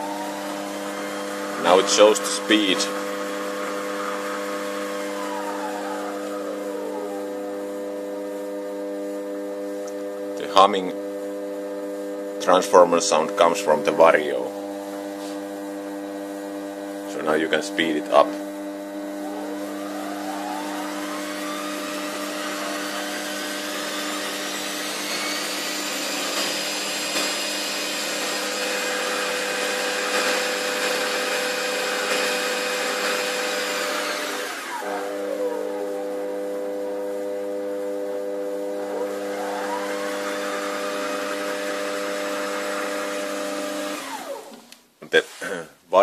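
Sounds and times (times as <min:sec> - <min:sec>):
lathe motor whine: 0:00.0 - 0:44.7.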